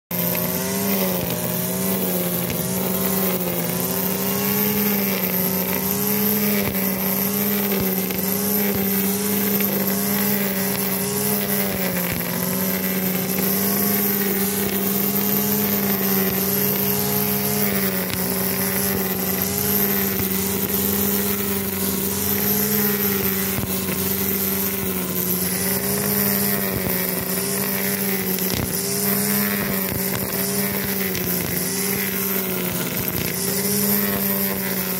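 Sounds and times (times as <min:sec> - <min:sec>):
brush cutter cutting grass: 0:00.1 - 0:34.9.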